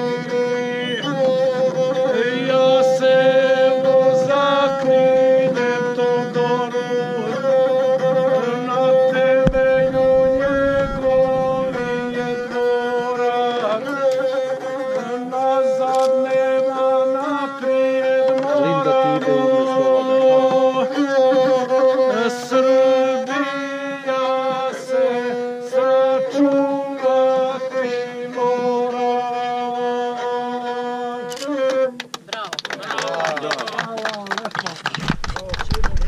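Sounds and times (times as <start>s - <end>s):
bowed single-string fiddle melody: 0.0s - 32.0s.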